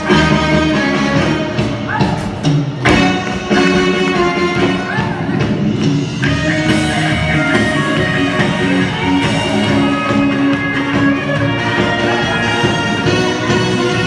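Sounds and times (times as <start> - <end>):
instrumental backing music: 0.0 - 14.0.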